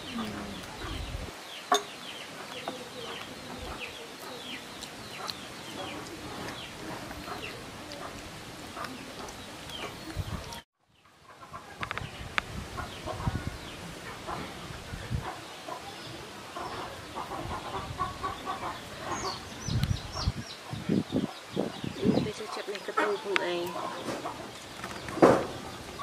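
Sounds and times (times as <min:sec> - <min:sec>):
chickens clucking and chirping: 0:00.0 - 0:26.0.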